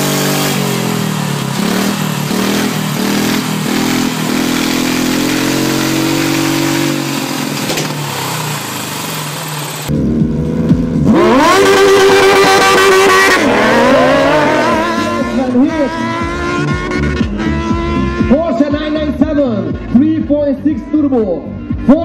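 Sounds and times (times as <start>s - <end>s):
kart engine accelerating hard: 0.0s - 19.0s
go-kart engine revving and idling: 0.0s - 20.3s.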